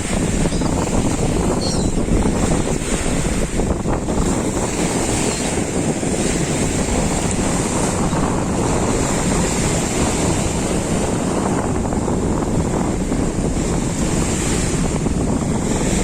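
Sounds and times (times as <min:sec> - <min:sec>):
sea surf washing onto shore: 0:00.0 - 0:16.0.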